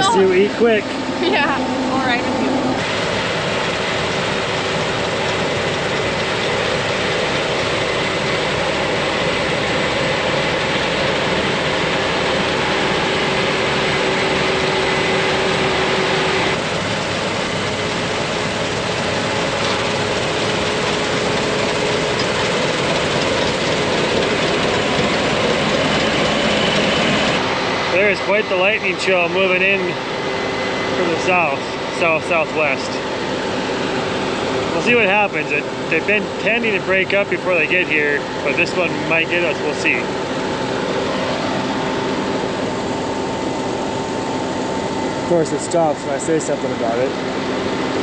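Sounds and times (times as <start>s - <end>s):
heavy machinery drone: 0.0s - 48.0s.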